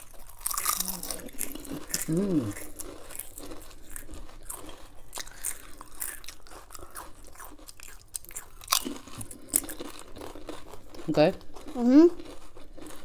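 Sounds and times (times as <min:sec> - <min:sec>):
potato chips crunching: 0:00.0 - 0:13.0.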